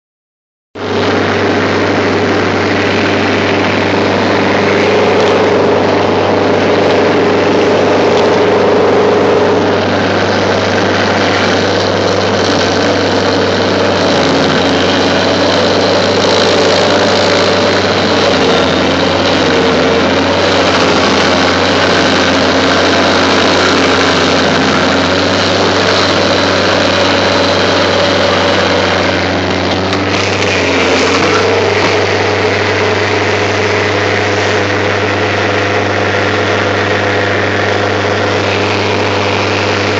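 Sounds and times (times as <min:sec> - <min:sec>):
cutter wheel grinding roots: 0:00.8 - 0:39.9
stump grinder engine hum: 0:00.8 - 0:39.9.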